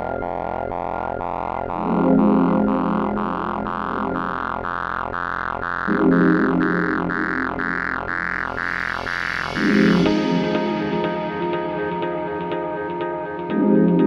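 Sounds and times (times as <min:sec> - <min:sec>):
low sustained synth chord: 0:00.0 - 0:14.0
synthesizer pulse: 0:00.0 - 0:14.0.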